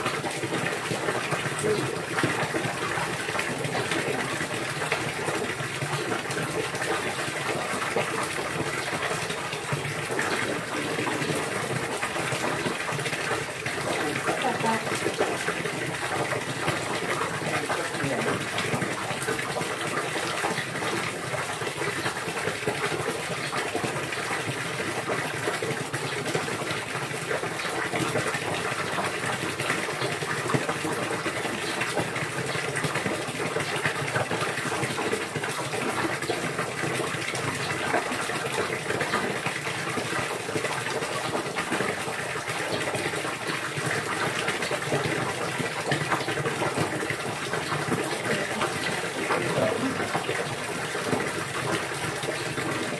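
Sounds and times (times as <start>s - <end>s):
water gushing: 0.0s - 52.9s.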